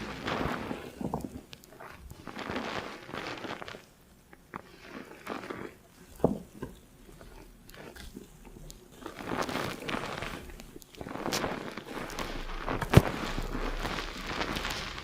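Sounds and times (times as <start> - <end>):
fingers scrubbing lathered hair: 0.0 - 15.0.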